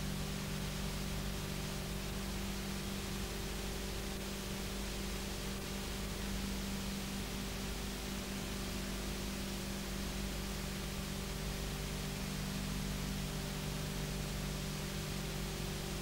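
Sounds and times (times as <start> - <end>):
tape hiss: 0.0 - 16.0.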